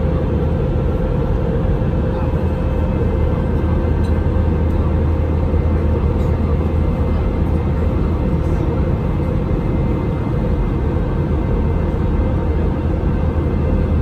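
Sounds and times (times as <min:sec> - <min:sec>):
airplane cabin noise: 0:00.0 - 0:14.0.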